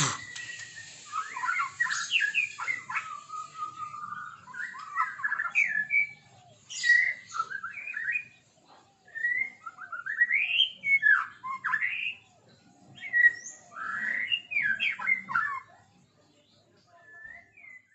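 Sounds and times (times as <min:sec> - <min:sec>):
bird singing whistled phrases: 0:00.0 - 0:08.4, 0:09.0 - 0:12.3, 0:13.0 - 0:15.8, 0:16.8 - 0:17.9.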